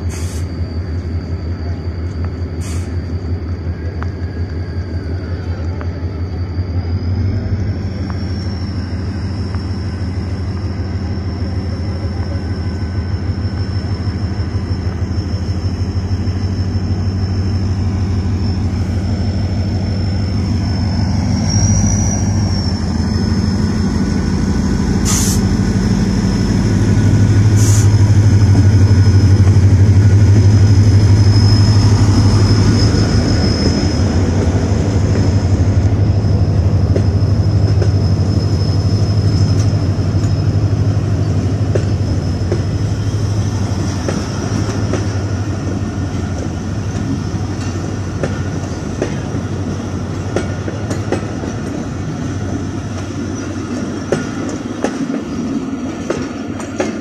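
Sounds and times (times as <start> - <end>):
diesel locomotive engine: 0.0 - 57.0
train coaches rolling past: 0.0 - 57.0.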